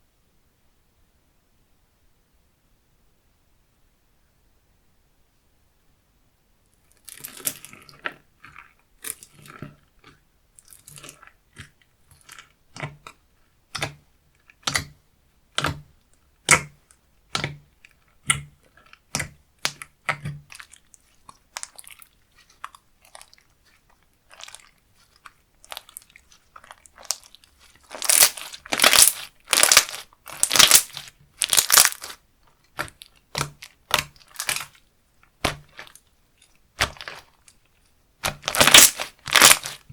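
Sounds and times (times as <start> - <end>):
slime crackling squishes: 6.9 - 39.9.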